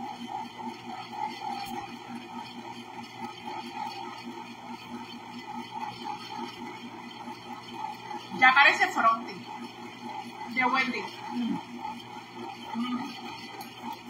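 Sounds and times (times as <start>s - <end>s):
ice cream maker motor churning: 0.0s - 14.0s.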